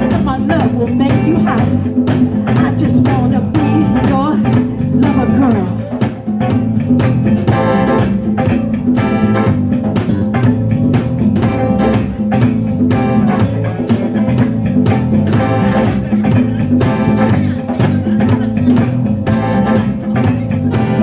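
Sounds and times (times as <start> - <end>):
band playing loud music: 0.0 - 21.0.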